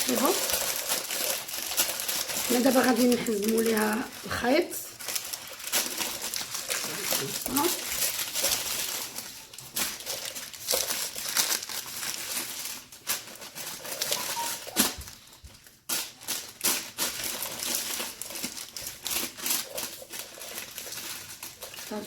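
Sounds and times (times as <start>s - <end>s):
paper crinkling and rustling: 0.0s - 22.0s.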